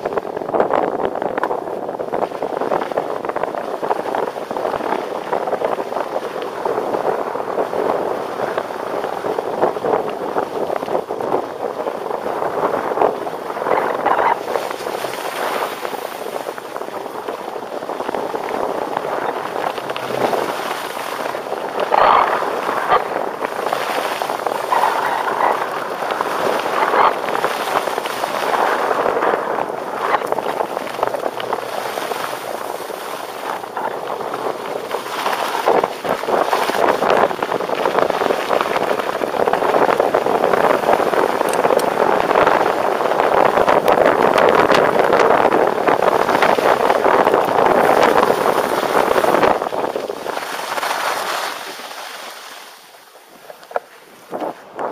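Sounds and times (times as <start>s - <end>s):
skis scraping over snow: 0.0s - 54.9s
wind on microphone: 0.0s - 54.9s.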